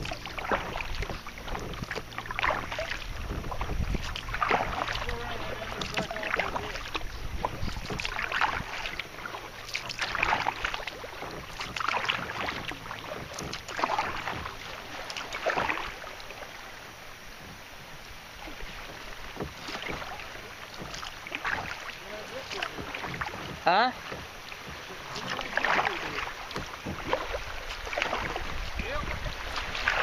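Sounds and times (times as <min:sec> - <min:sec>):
kayak paddle splashing: 0:00.0 - 0:30.0.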